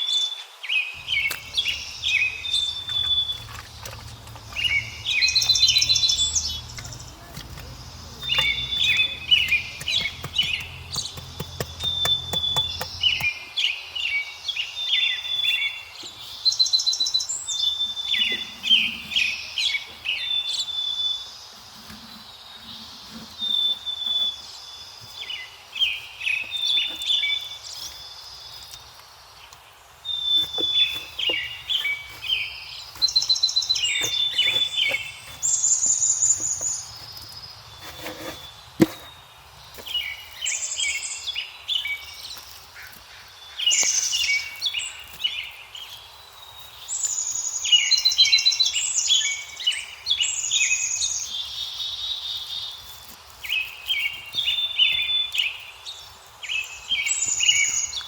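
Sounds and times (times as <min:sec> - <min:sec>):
birds singing: 0:00.6 - 0:58.0.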